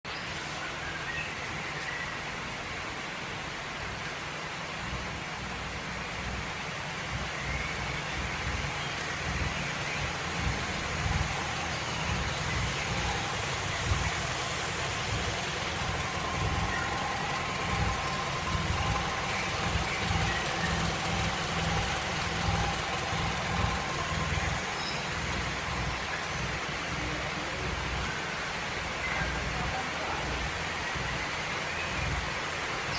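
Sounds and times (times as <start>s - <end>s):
car engine idling: 4.7s - 32.9s.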